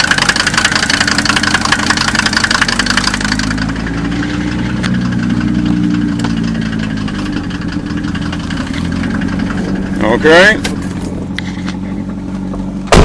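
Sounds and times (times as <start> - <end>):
diesel engine idling clatter: 0.0 - 13.0.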